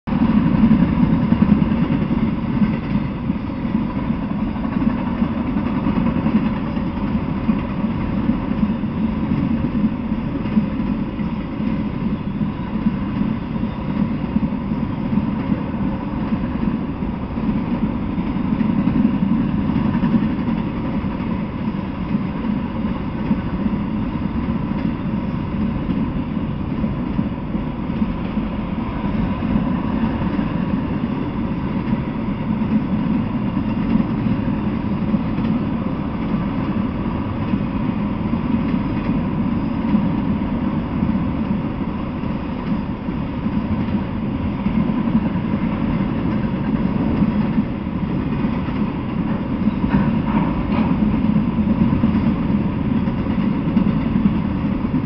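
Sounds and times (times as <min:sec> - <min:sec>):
freight train wheels rumbling on rail: 0:00.0 - 0:55.0.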